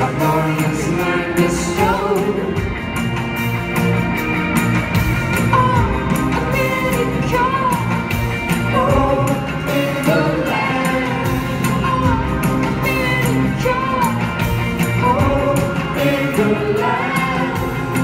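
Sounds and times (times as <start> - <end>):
woman singing lead: 0.0 - 2.8, 5.3 - 18.0
guitar: 0.0 - 18.0.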